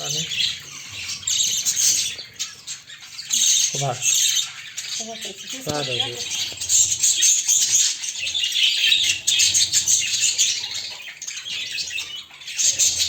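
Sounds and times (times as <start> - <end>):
budgerigar chicks chirping: 0.0 - 13.0.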